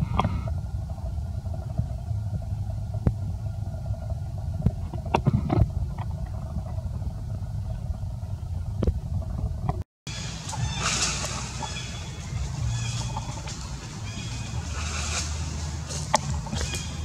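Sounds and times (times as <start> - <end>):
faint steady hum: 0.0 - 17.0
steady low rumble: 0.0 - 17.0.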